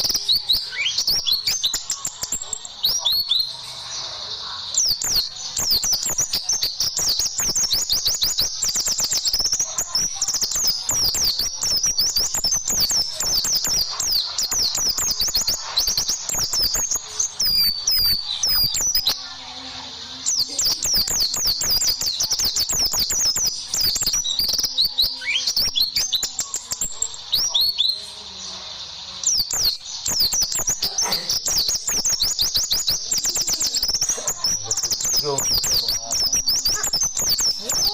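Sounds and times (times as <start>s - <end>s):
bird singing rapid chattering song: 0.0s - 37.9s.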